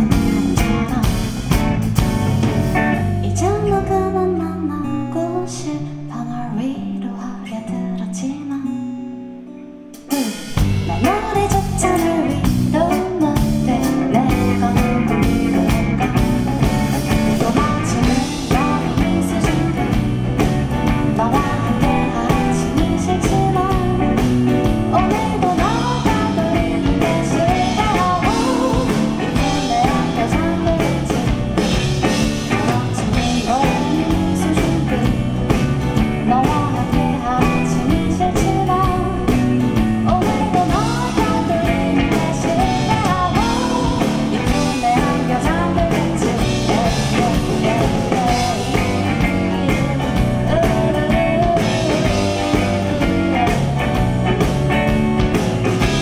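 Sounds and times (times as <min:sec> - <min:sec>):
woman singing: 0:00.0 - 0:02.1, 0:02.9 - 0:09.2, 0:10.0 - 0:56.0
acoustic guitar: 0:00.0 - 0:56.0.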